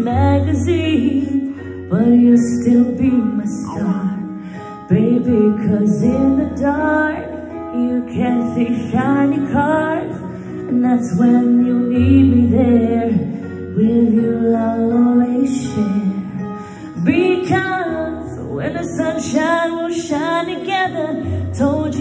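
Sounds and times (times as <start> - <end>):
backing track music: 0.0 - 22.0
woman singing into microphone: 0.0 - 22.0.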